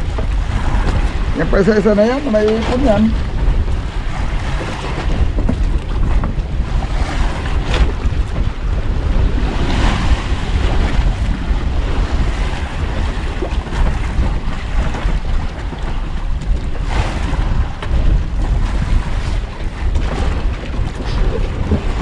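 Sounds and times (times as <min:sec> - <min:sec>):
sea water washing: 0:00.0 - 0:22.0
wind buffeting microphone: 0:00.0 - 0:22.0.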